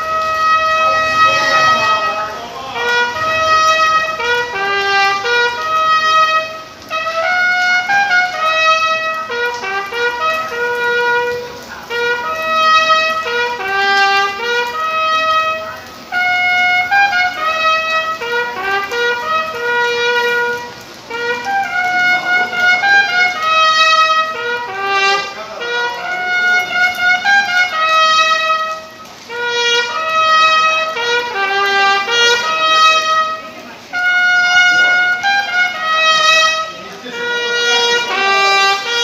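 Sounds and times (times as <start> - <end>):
bugle melody: 0.0 - 39.0.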